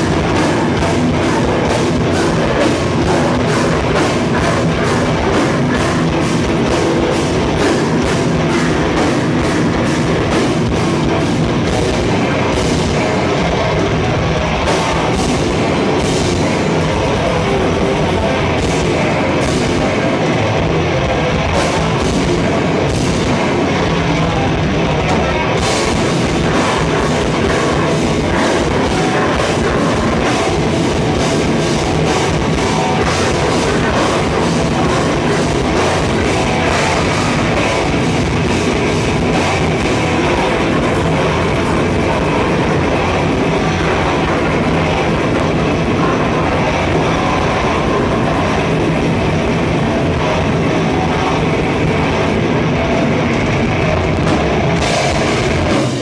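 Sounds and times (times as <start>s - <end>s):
heavy rock band playing: 0.0s - 56.0s.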